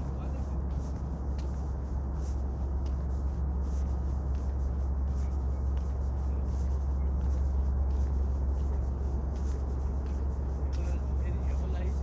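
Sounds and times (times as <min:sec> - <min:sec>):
footsteps walking: 0:00.0 - 0:12.0
steady low rumble: 0:00.0 - 0:12.0.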